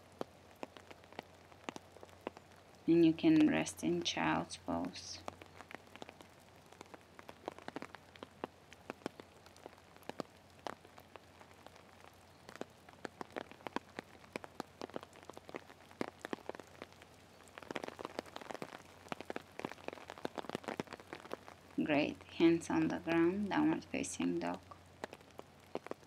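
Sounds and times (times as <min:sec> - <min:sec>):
faint rain hiss: 0:00.0 - 0:26.0
raindrops ticking: 0:00.0 - 0:26.0.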